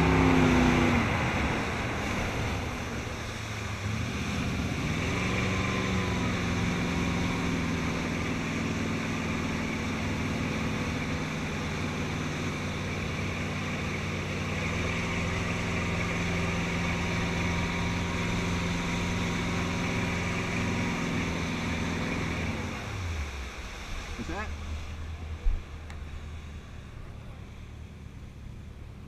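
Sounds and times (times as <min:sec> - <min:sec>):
boat engine running: 0:00.0 - 0:29.0
water rushing past hull: 0:00.0 - 0:29.0.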